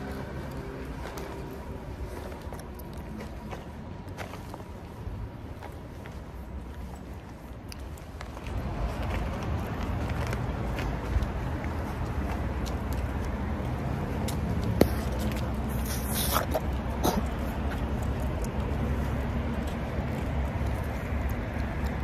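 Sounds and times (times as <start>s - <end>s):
street noise rumble: 0.0s - 22.0s.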